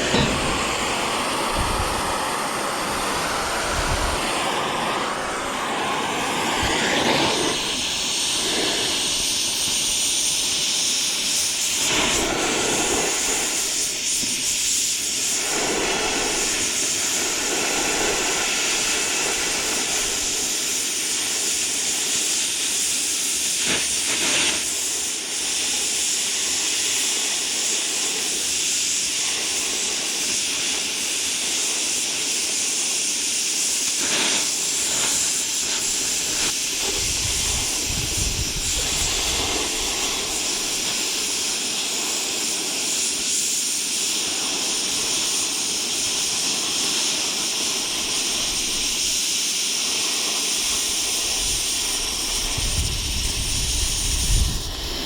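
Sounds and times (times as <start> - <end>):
welding arc sizzling and crackling: 0.0 - 55.0.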